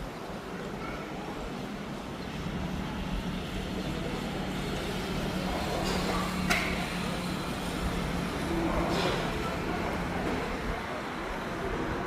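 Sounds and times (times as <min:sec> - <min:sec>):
vehicle engine and road noise: 0:01.3 - 0:12.0.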